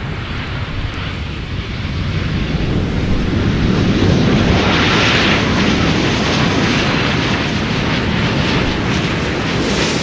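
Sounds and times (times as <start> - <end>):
hissing whine: 0.0 - 10.0
jet roar and rumble: 0.0 - 10.0.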